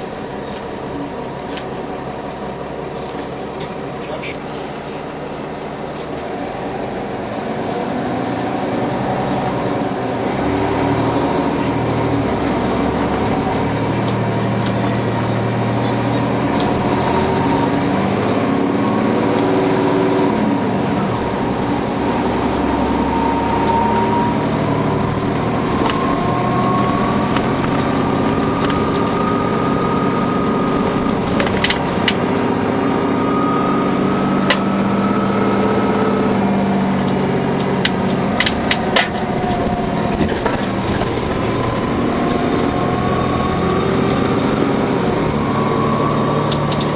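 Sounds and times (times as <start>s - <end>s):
bus diesel engine running: 0.0s - 46.9s
whine rising in pitch: 8.0s - 46.9s.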